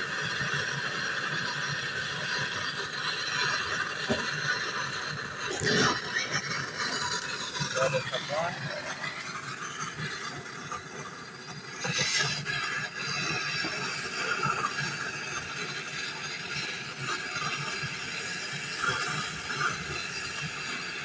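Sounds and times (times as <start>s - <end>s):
gas torch flame hissing: 0.0s - 21.0s.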